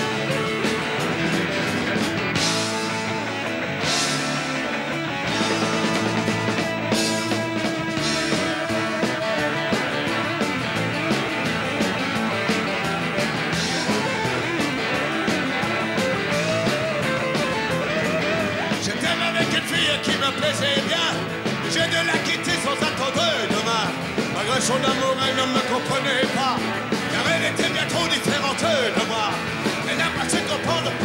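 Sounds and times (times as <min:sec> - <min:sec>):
rock band playing: 0:00.0 - 0:31.0
wavering lead guitar line: 0:00.0 - 0:31.0.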